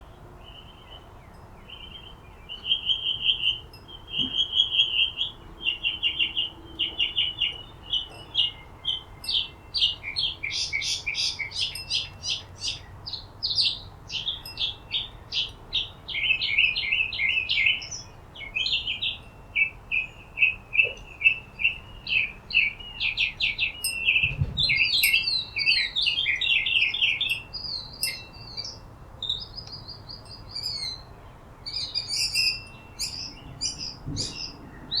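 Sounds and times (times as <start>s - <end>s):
birds chirping in chorus: 0.1s - 35.0s.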